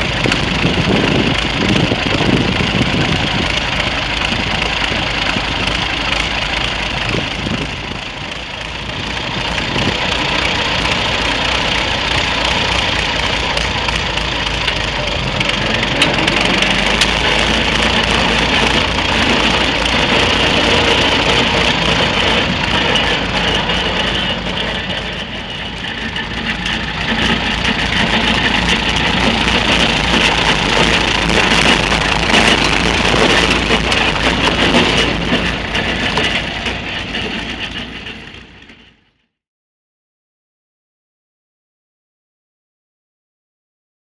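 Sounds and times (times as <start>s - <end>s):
tractor engine idling: 0.0s - 39.2s.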